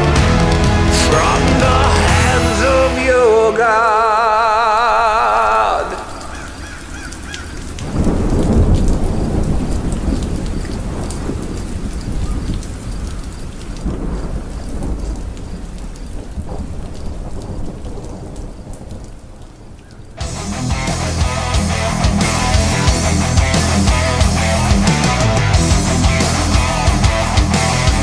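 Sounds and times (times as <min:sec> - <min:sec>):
steady rain: 0:00.0 - 0:28.0
thunder rolling: 0:00.0 - 0:28.0.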